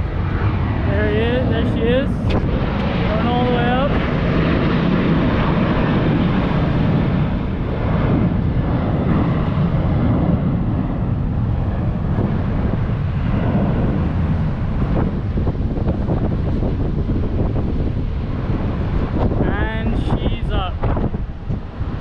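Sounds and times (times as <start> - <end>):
jet engines rumbling at takeoff: 0.0 - 22.0.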